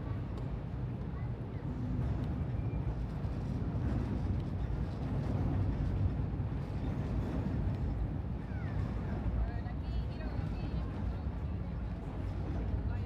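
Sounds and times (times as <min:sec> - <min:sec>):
low rumble of city ambience: 0:00.0 - 0:13.0.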